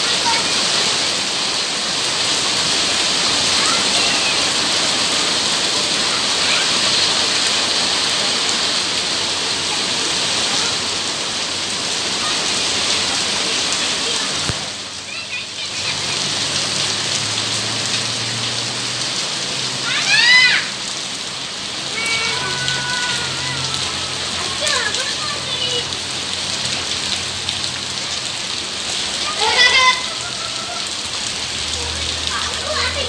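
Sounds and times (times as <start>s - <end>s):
rain on paving: 0.0s - 33.0s.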